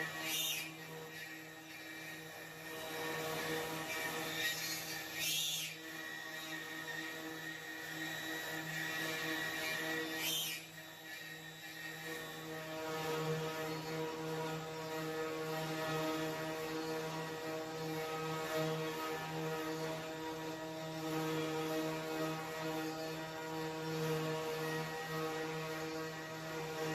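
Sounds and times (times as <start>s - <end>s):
cnc router humming and hissing: 0.0s - 26.9s.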